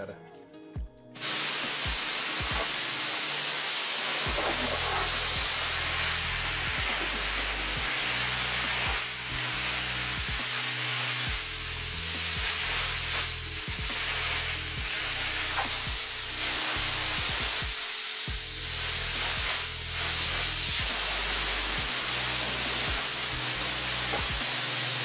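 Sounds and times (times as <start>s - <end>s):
background music: 0.0s - 25.0s
pressure washer spraying water: 1.2s - 25.0s.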